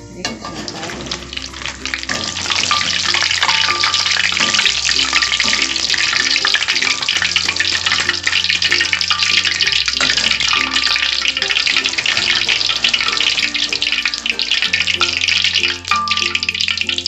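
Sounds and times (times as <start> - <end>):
background music with bass: 0.0 - 17.0
hot oil sizzling: 0.2 - 17.0.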